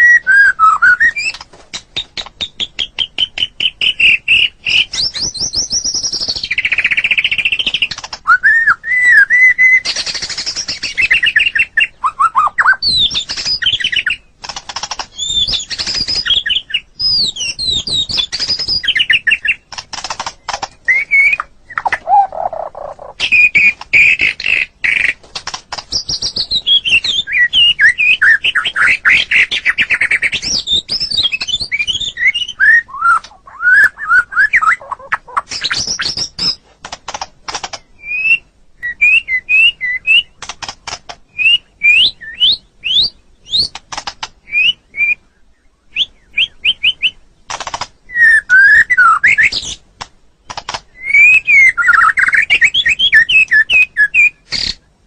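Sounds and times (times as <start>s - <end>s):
bird singing trills and whistles: 0.0s - 25.2s, 25.9s - 36.6s, 37.7s - 40.5s, 41.3s - 43.8s, 44.4s - 47.3s, 48.1s - 49.8s, 50.4s - 54.9s.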